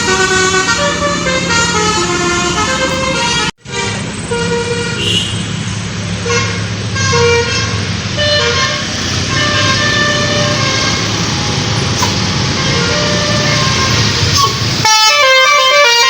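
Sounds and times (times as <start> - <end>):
bus air horns playing tune: 0.0 - 16.0.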